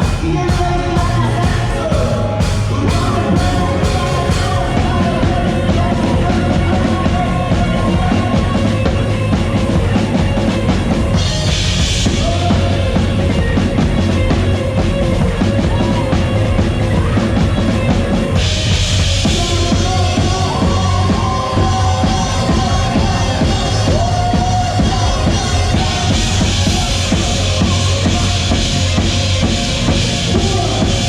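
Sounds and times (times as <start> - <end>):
drum kit: 0.0 - 31.0
rock worship band music: 0.0 - 31.0.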